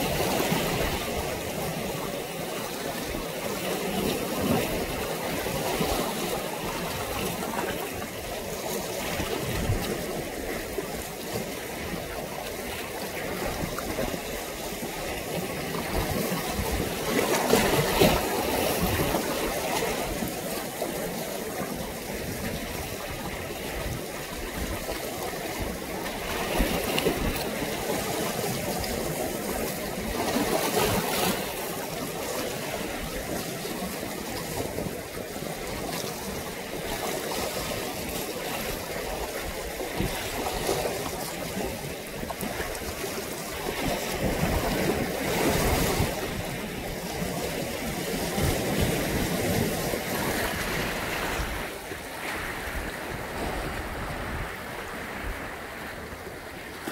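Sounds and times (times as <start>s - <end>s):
sea water lapping: 0.0s - 56.9s.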